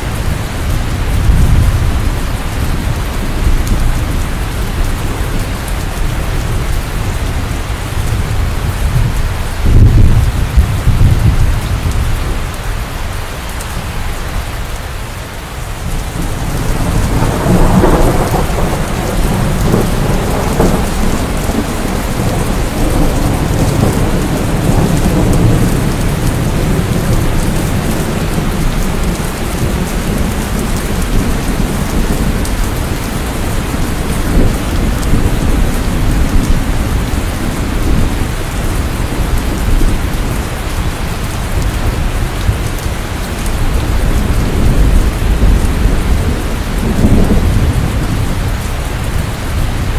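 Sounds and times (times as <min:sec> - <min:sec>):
thunder rumbling: 0:00.0 - 0:12.8, 0:15.6 - 0:49.9
steady rain: 0:00.0 - 0:49.9.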